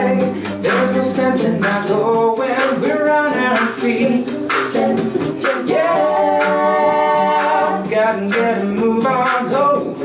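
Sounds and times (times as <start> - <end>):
a cappella group singing in harmony: 0.0 - 10.0.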